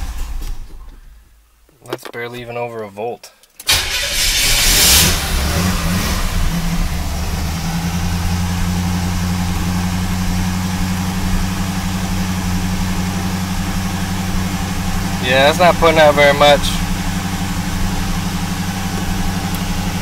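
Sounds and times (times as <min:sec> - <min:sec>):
car engine idling: 0:00.0 - 0:01.7, 0:03.6 - 0:20.0.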